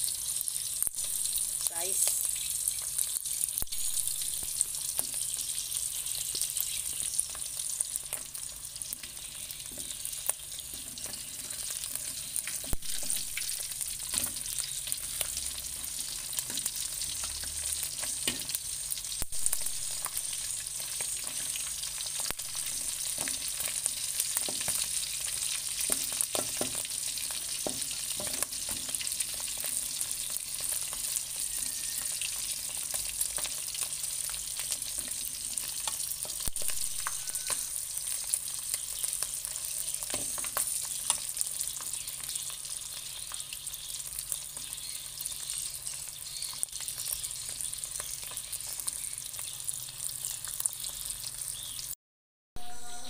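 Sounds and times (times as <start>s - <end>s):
fish sizzling in oil: 0.0s - 52.0s.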